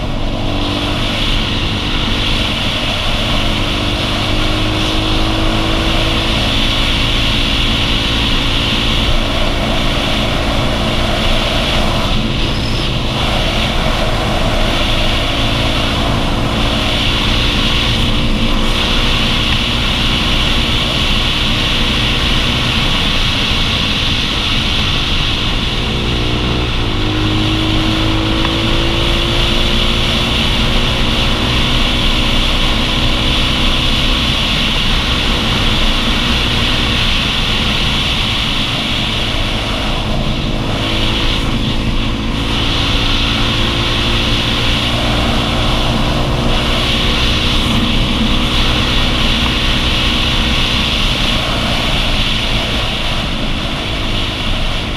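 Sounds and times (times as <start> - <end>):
motorcycle engine running: 0.0 - 54.9
wind rush over microphone: 0.0 - 54.9.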